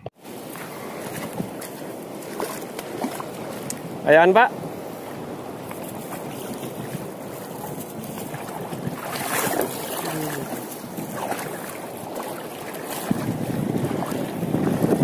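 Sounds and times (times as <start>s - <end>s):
wind buffeting microphone: 0.0s - 15.0s
water splashing around wading legs: 0.2s - 4.0s, 5.0s - 15.0s.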